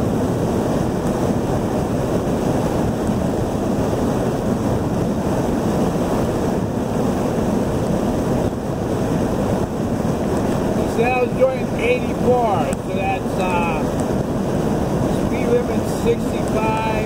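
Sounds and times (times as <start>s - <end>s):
road and wind noise in car: 0.0s - 17.0s.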